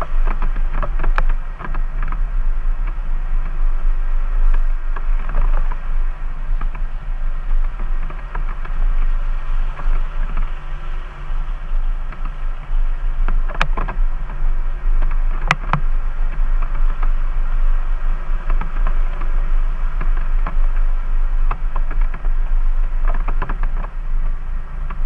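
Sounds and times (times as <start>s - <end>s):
vehicle engine low rumble: 0.0s - 25.0s.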